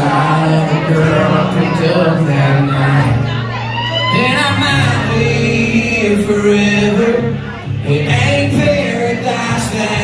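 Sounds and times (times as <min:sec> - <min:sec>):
live country band music: 0:00.0 - 0:10.0.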